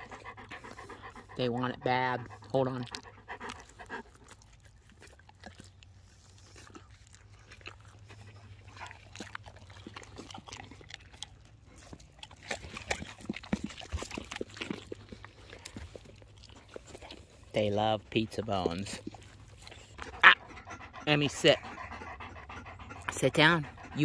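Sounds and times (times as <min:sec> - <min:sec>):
dogs crunching pizza crusts: 0:00.0 - 0:24.0
dogs panting: 0:00.0 - 0:24.0.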